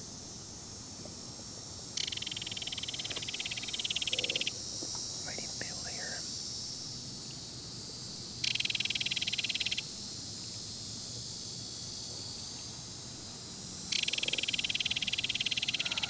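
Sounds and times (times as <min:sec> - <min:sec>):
insect chorus trilling: 0:00.0 - 0:16.0
insect pulsing trill: 0:00.0 - 0:16.0.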